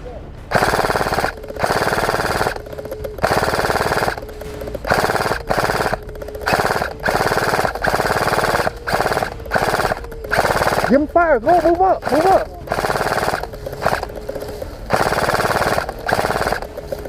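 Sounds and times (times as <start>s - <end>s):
airsoft gun firing bursts: 0.5s - 17.0s.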